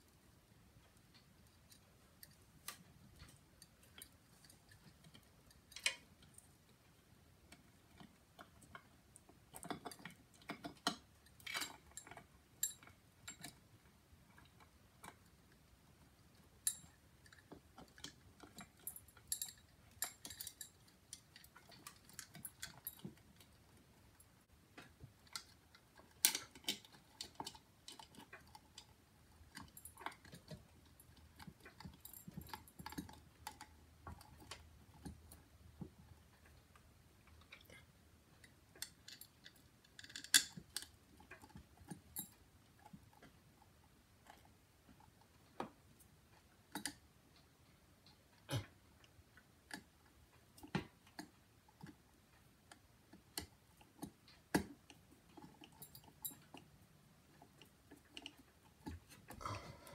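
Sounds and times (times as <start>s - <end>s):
hard objects clicking and clinking: 0.8s - 47.5s, 52.7s - 59.9s.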